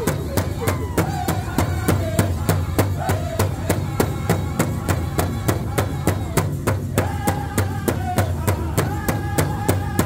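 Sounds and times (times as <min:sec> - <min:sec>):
large hand drum beating: 0:00.0 - 0:10.0
men singing high notes: 0:00.0 - 0:10.0.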